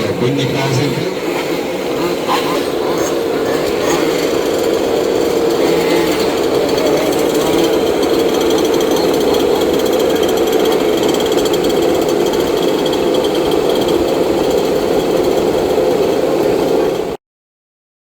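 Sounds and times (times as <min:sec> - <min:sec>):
two-stroke rc car engines buzzing: 0:00.0 - 0:17.2.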